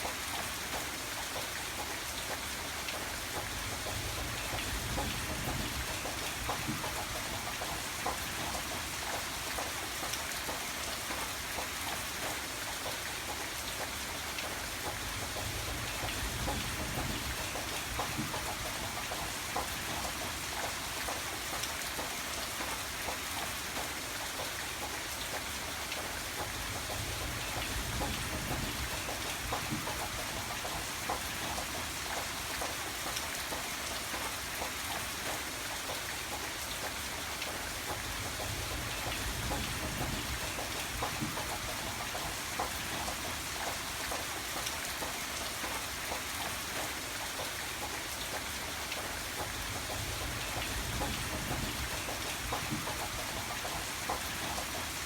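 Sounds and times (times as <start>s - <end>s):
rain patter on a surface: 0.0s - 55.0s.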